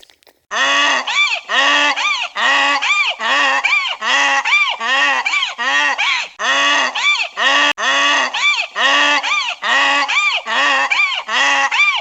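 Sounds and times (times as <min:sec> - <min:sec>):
waterfowl nasal calls: 0:00.5 - 0:12.0.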